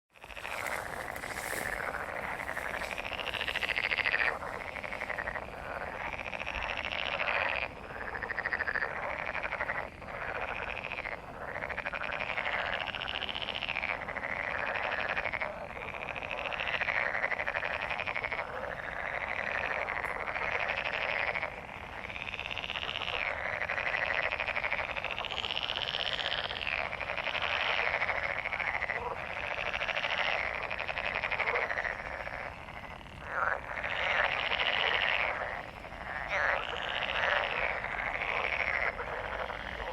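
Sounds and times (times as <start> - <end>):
chorus of frogs croaking: 0.1 - 39.9.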